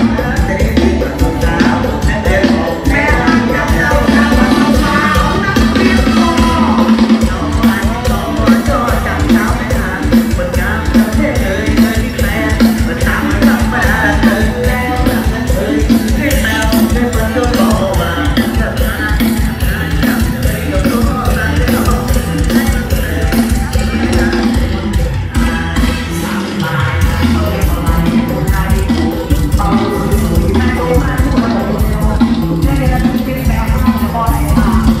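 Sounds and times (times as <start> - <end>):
drum kit beat: 0.0 - 35.0
live band music: 0.0 - 35.0
person singing: 0.0 - 35.0.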